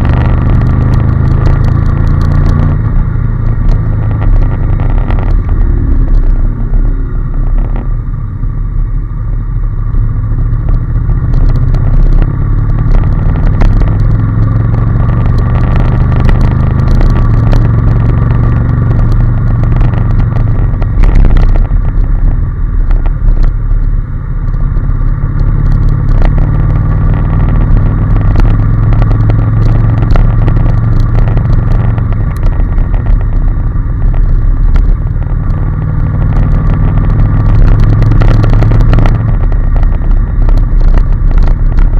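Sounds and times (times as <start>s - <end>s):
motorcycle engine running: 0.0s - 41.9s
wind buffeting on microphone: 0.0s - 41.9s.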